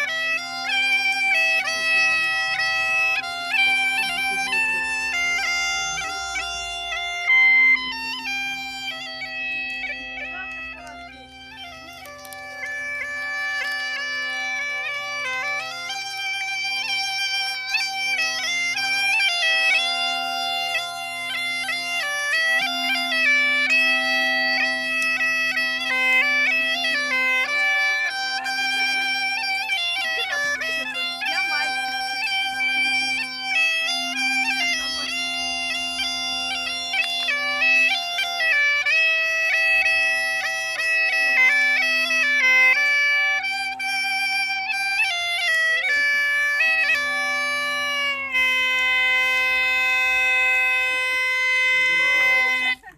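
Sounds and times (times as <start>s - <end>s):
bagpipe drone: 0.0s - 52.9s
bagpipe melody: 0.0s - 52.9s.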